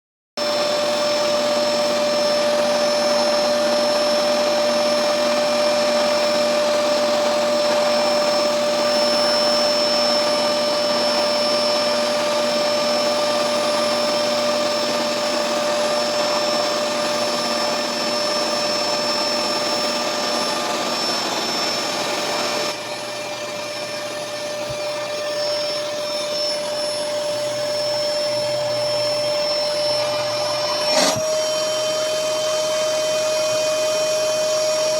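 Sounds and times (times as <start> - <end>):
vacuum cleaner whining: 0.4 - 34.9.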